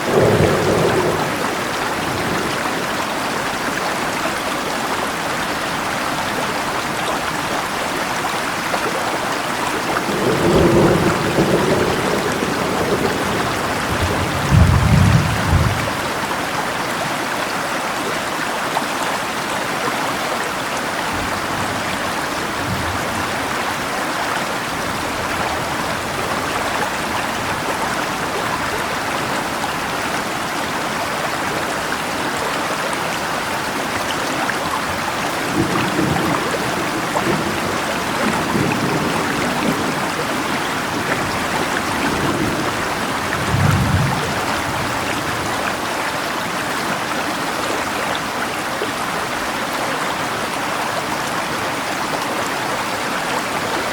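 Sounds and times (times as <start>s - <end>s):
rain falling: 0.0s - 53.9s
river rushing: 0.0s - 53.9s.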